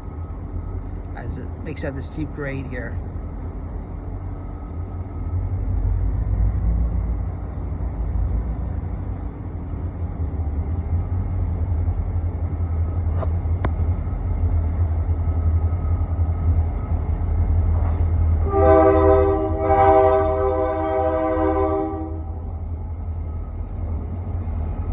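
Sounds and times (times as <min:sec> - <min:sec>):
diesel locomotives rumbling: 0:00.0 - 0:24.9.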